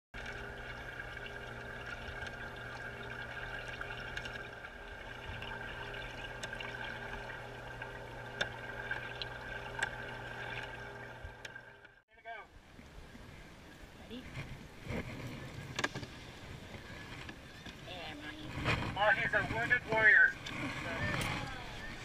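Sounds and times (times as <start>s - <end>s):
faint water bubbling: 0.2s - 22.0s.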